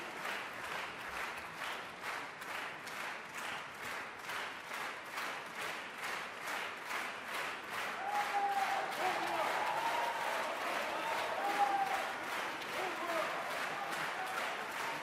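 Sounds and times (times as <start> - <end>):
audience clapping in unison: 0.0 - 15.0.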